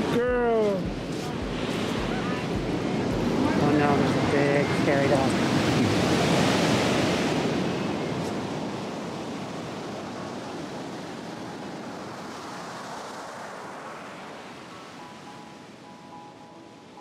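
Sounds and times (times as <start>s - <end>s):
surf rushing up a beach: 0.0s - 17.0s.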